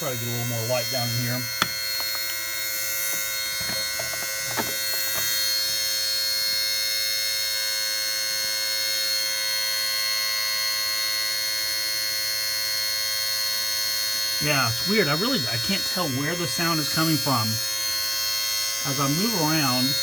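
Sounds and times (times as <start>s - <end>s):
high-pitched electrical buzz: 0.0s - 20.0s.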